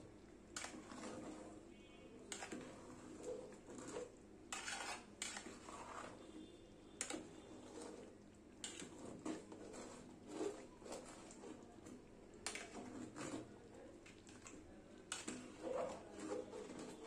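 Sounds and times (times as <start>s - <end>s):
metal ladle scraping a pot: 0.6s - 11.6s, 12.4s - 13.6s, 15.1s - 17.0s.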